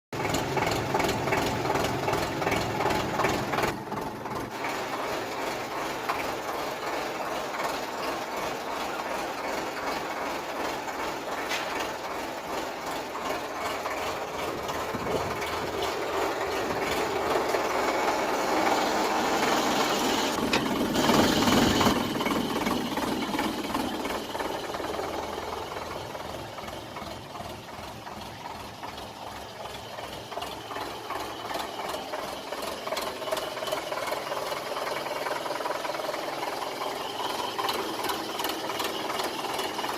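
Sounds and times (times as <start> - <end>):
tractor diesel engine knocking: 0.1 - 39.9.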